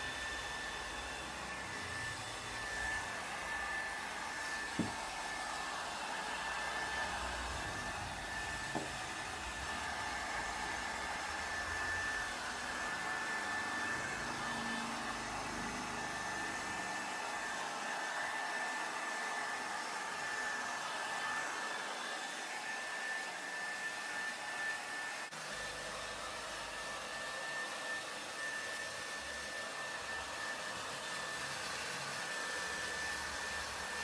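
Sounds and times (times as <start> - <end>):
blower motor whining: 0.0 - 34.0.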